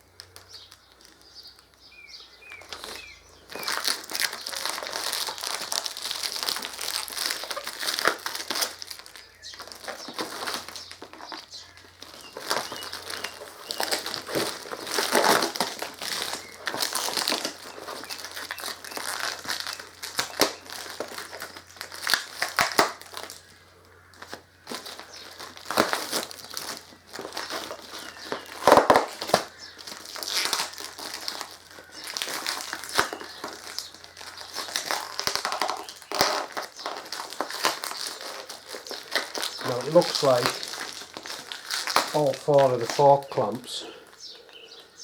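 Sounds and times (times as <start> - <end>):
plastic shrink-wrap crinkling: 0.0 - 45.0.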